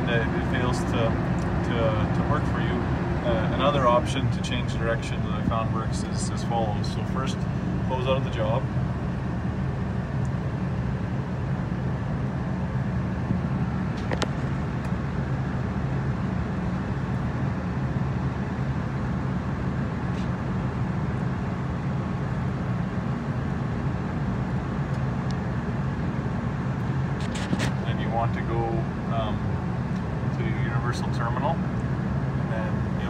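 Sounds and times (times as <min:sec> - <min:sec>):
engine running with low drone: 0:00.0 - 0:33.0.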